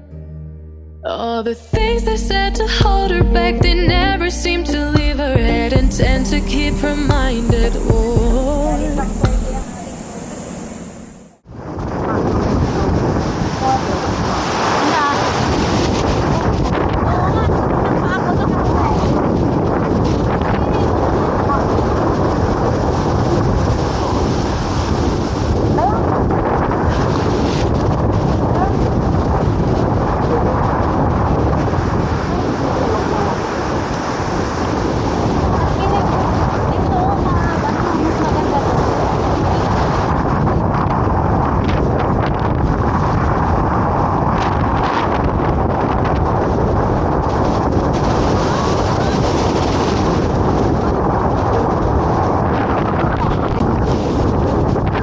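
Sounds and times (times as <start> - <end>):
wind rumbling on microphone: 4.9 - 55.0
waves breaking on a beach: 9.4 - 55.0.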